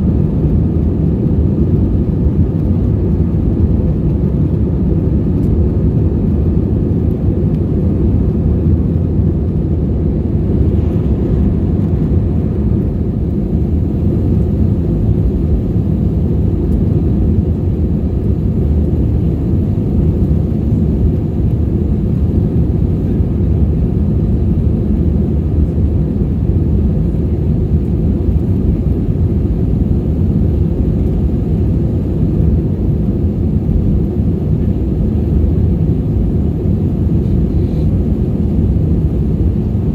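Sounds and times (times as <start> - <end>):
jet engines and airflow in cabin: 0.0 - 39.9.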